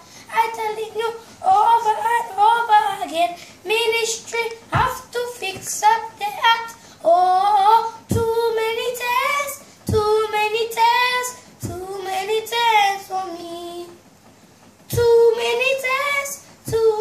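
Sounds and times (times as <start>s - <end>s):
boy singing unaccompanied: 0.0s - 14.0s, 14.9s - 17.0s.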